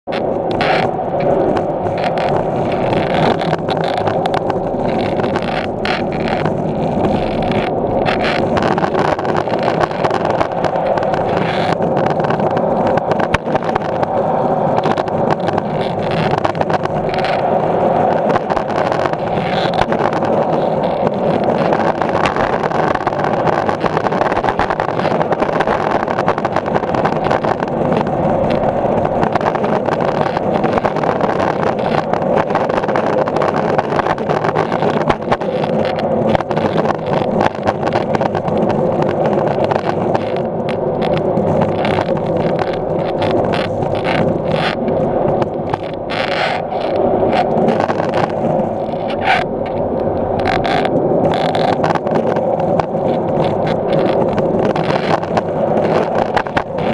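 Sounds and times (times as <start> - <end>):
skateboard wheels rolling on concrete: 0.0 - 56.9
skateboard clicks: 0.1 - 56.9.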